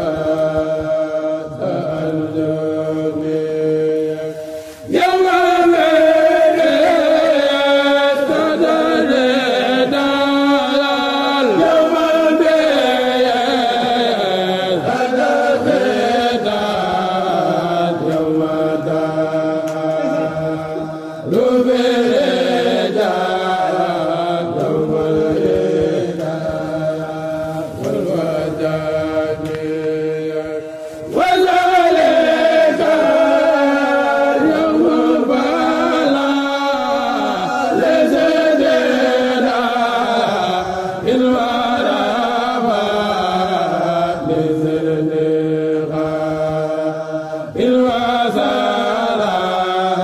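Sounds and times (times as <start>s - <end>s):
unaccompanied group chanting: 0.0s - 50.0s.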